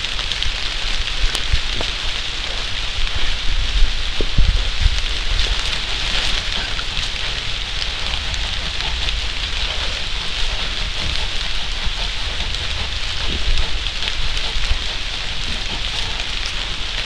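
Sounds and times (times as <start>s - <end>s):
low rumble: 0.0s - 17.0s
rain falling on leaf litter: 0.0s - 17.0s.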